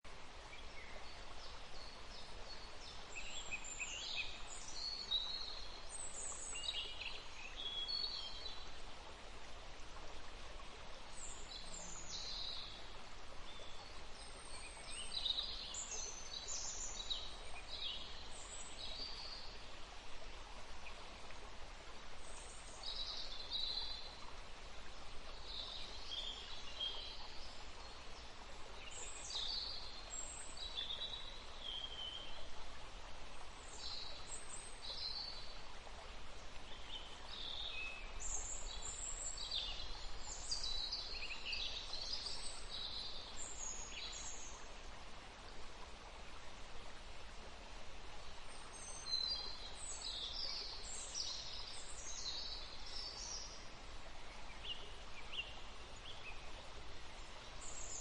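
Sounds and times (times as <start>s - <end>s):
soft background hiss: 0.1s - 58.0s.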